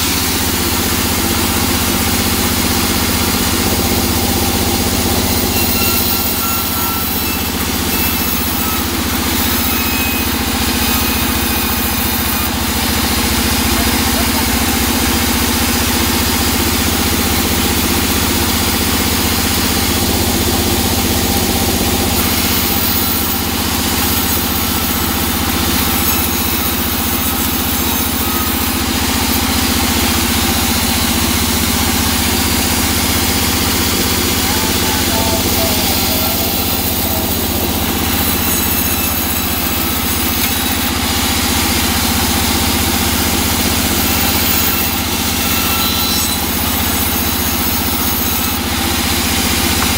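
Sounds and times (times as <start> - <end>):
bandsaw motor humming: 0.0 - 49.9
saw blade hissing through wood: 0.0 - 49.9.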